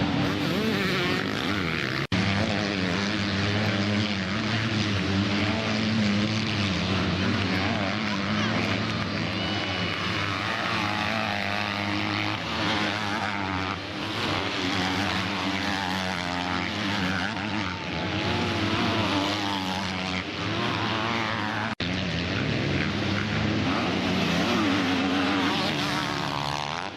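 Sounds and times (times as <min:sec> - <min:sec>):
motocross bike engines revving: 0:00.0 - 0:26.9.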